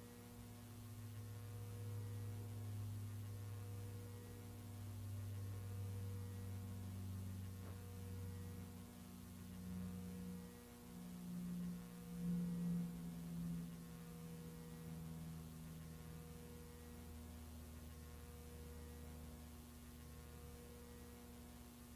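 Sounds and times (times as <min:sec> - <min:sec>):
low steady hum of held tones: 0:00.0 - 0:21.9.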